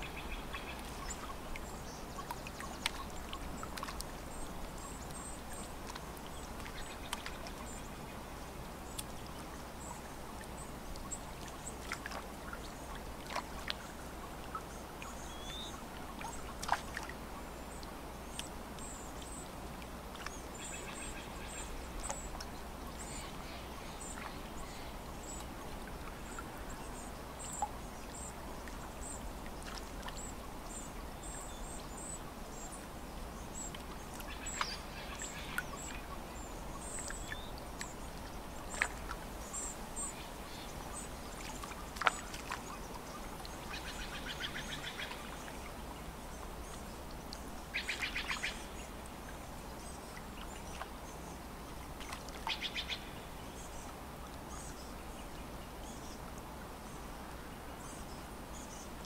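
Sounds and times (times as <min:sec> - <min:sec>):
gently lapping water: 0:00.0 - 0:59.0.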